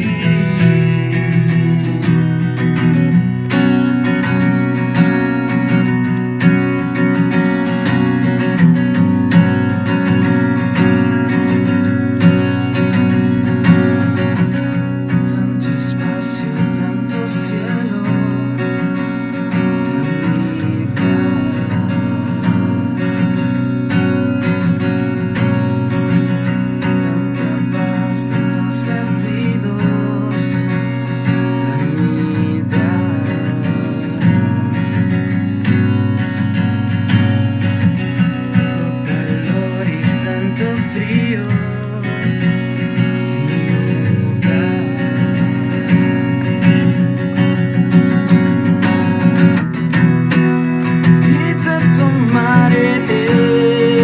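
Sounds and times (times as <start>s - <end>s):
man singing: 0.0s - 23.3s, 24.0s - 35.9s, 38.2s - 46.8s, 50.3s - 54.0s
acoustic guitar strumming: 0.0s - 54.0s.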